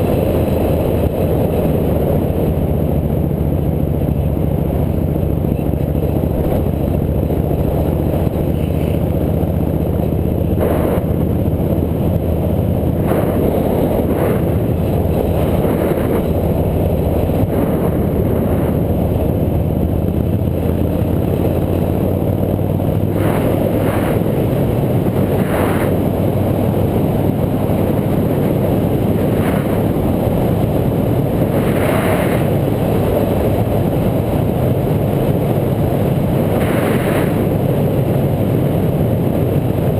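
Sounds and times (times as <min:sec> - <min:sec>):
motorcycle engine running: 0:00.0 - 0:39.9
riding wind noise: 0:00.0 - 0:39.9.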